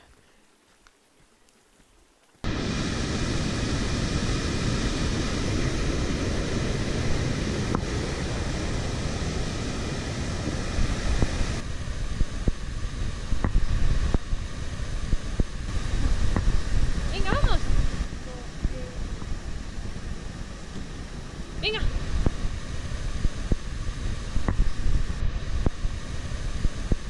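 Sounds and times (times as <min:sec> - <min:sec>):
gusty wind on microphone: 0:02.4 - 0:27.0
stream rushing down cascade: 0:02.4 - 0:27.0.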